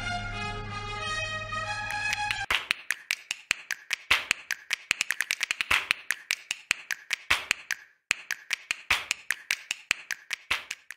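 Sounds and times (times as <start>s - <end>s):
percussive music of snaps and taps: 1.9s - 10.9s.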